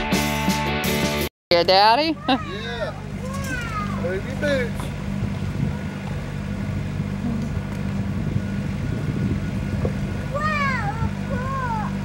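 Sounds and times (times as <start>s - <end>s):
engine idling: 1.5s - 12.0s.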